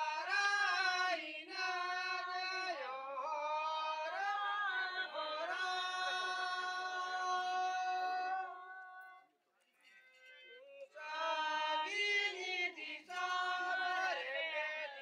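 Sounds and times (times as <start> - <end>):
folk singing: 0.0 - 9.2, 10.6 - 15.0.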